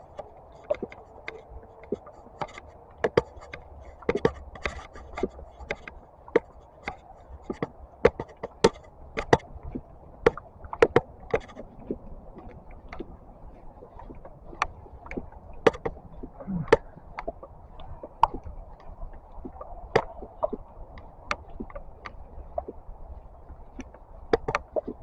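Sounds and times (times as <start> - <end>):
sharp knocks and clicks: 0.0 - 13.1, 14.0 - 22.8, 23.8 - 25.0
faint low rumble: 0.0 - 25.0.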